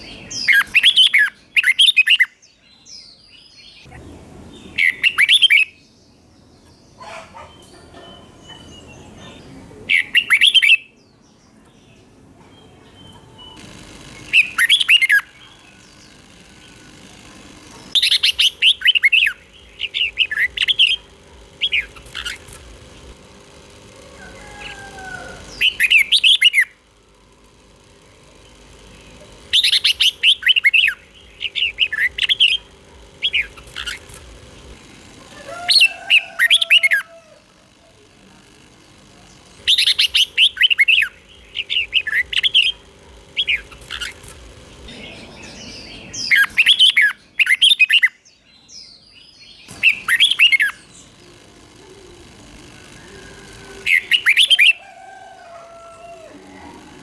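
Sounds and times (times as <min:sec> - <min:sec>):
bulbul chirping song: 0:00.0 - 0:37.8, 0:38.5 - 0:54.9.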